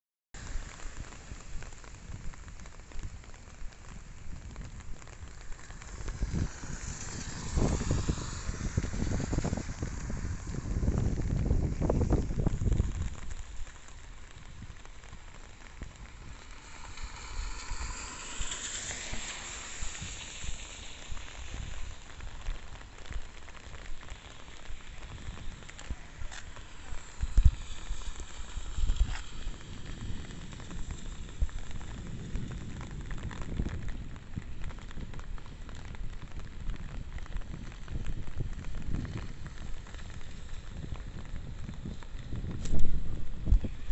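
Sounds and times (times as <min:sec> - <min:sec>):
steady rain falling: 0:00.4 - 0:43.9.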